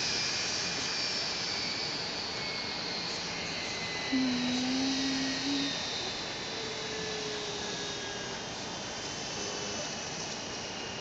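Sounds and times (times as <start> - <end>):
high engine whine: 0.0 - 11.0
jet engines hissing: 0.0 - 11.0.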